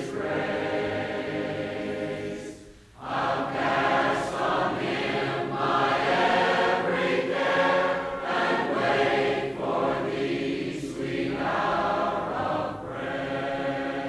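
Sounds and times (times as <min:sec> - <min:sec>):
congregation singing a hymn: 0:00.0 - 0:14.0.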